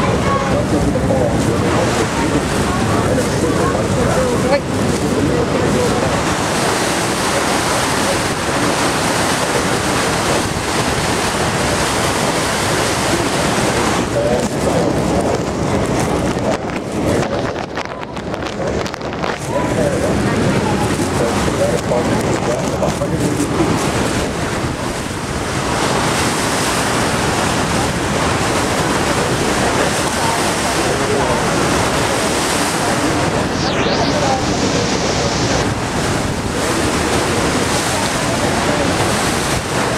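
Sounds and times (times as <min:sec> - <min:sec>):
river churning: 0:00.0 - 0:39.9
waterfall roaring: 0:00.0 - 0:39.9
wind buffeting microphone: 0:00.0 - 0:39.9.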